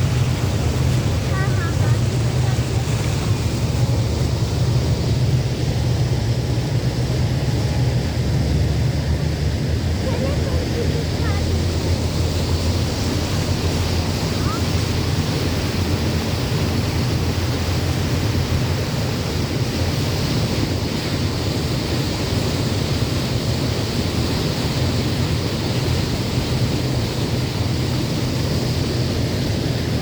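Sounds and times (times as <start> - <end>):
rushing sea water: 0.0 - 30.0
wind on microphone: 0.0 - 30.0.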